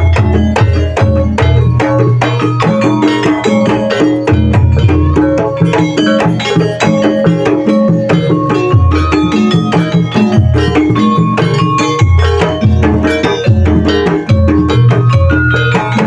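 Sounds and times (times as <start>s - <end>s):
hand drums beating rapidly: 0.0s - 16.0s
tuned percussion notes: 0.0s - 16.0s.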